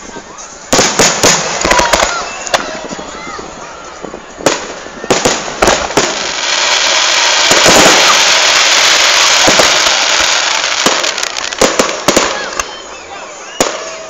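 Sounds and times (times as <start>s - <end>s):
fireworks crackling: 0.0s - 14.0s
firework booms: 0.7s - 12.7s
firework bangs: 0.7s - 14.0s.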